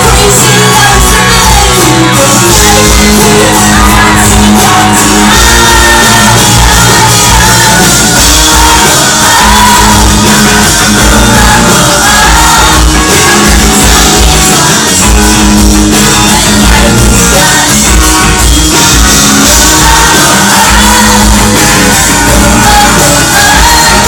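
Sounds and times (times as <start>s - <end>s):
fans shouting and cheering: 0.0s - 24.0s
live pop-rock band playing: 0.0s - 24.0s
woman singing lead: 0.0s - 24.0s.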